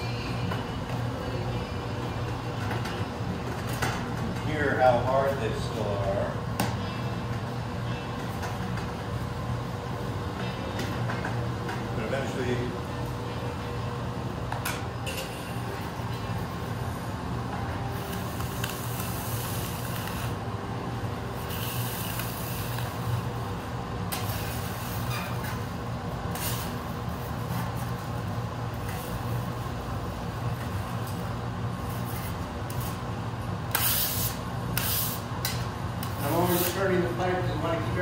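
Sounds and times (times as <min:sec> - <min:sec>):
furnace and fans roaring: 0:00.0 - 0:38.0.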